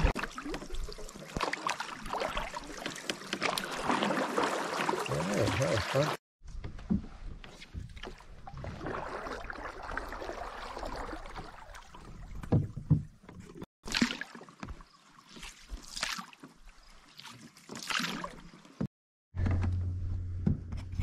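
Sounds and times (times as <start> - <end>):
paddle splashing in water: 0.0 - 6.2, 7.4 - 18.9.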